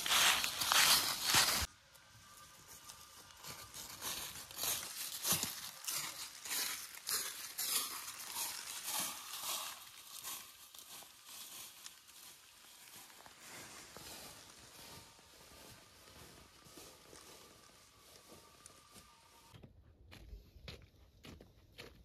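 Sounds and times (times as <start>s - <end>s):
footsteps crunching dry leaves: 0.0s - 19.5s.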